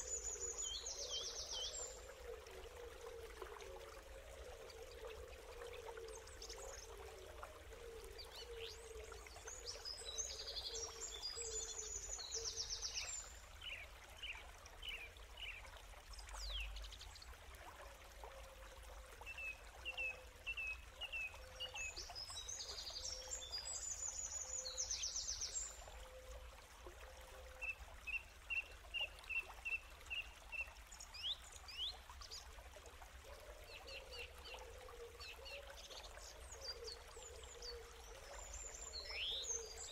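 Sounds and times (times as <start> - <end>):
faint trickle of running water: 0.0 - 39.9.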